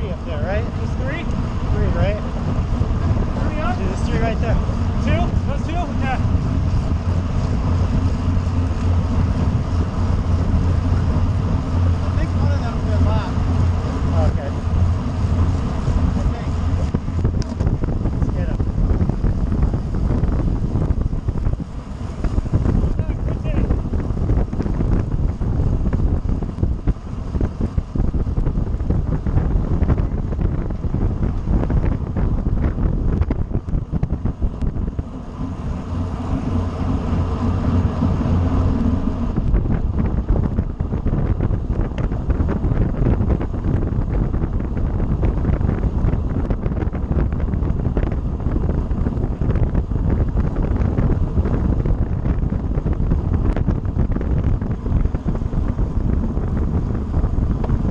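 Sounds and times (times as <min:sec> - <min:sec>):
steady pitched hum: 0:00.0 - 0:57.9
wind buffeting microphone: 0:00.0 - 0:57.9.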